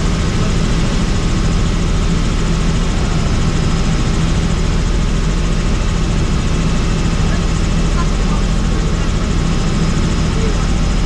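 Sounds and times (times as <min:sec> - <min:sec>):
helicopter rotor and turbine drone: 0:00.0 - 0:11.0.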